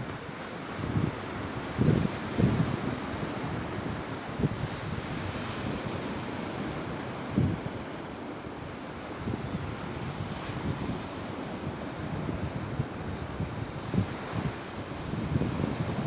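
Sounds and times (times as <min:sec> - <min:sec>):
wind buffeting microphone: 0:00.0 - 0:07.9, 0:08.6 - 0:16.0
sea surf washing on shore: 0:00.0 - 0:16.0.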